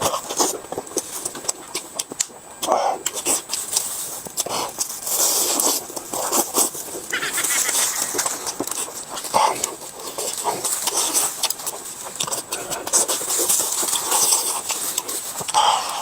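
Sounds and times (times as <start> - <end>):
crunchy bites: 0.0 - 16.0
wet mouth clicks: 0.1 - 16.0.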